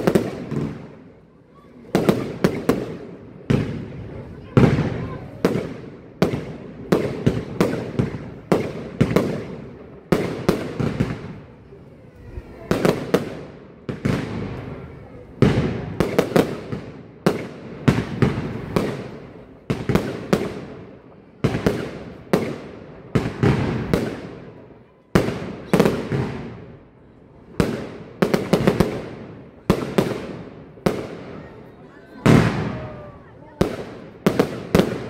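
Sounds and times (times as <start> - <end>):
fireworks bangs with echo: 0.0 - 35.0.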